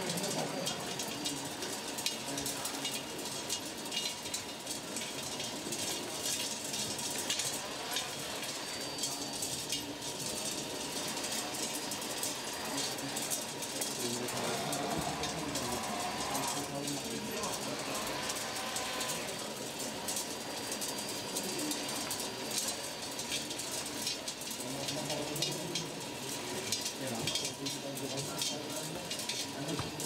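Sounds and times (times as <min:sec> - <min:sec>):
model machines clicking and rattling: 0:00.0 - 0:30.0.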